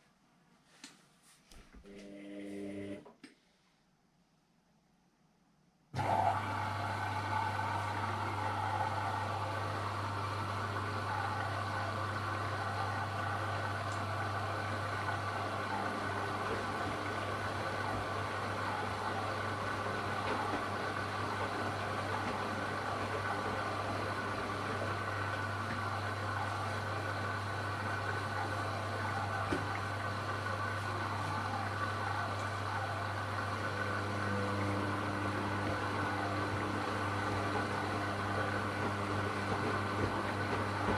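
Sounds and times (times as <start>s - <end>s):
washer-dryer humming: 1.8s - 3.1s, 6.0s - 40.9s.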